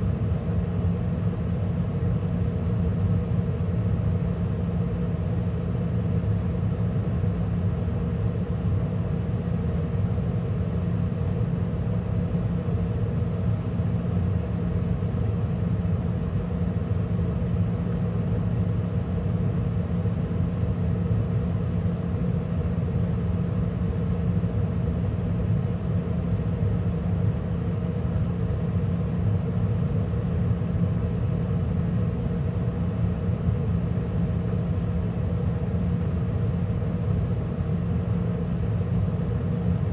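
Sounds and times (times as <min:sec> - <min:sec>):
gas furnace running: 0:00.0 - 0:39.9.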